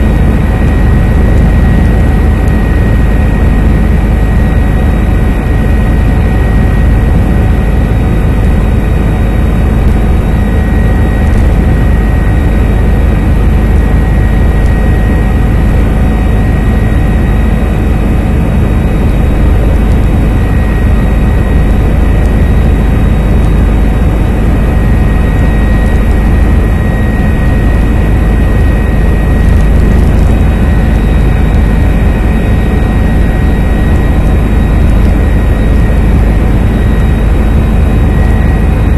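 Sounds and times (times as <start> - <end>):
helicopter rotor and engine noise: 0.0 - 38.9.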